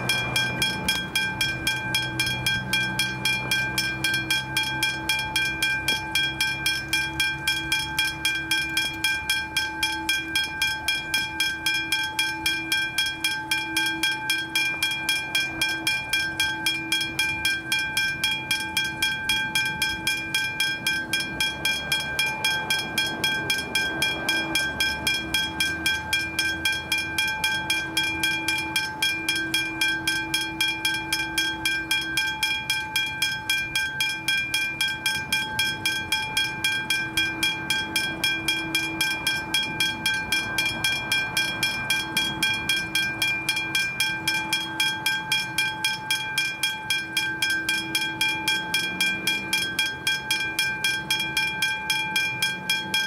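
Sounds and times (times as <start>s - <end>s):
level crossing bell ringing: 0.0s - 53.0s.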